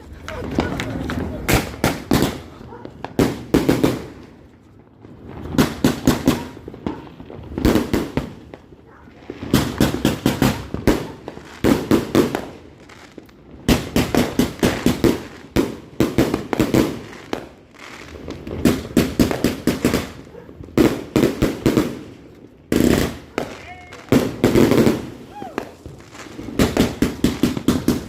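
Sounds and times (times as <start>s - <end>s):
firework crackling bangs: 0.0s - 28.0s.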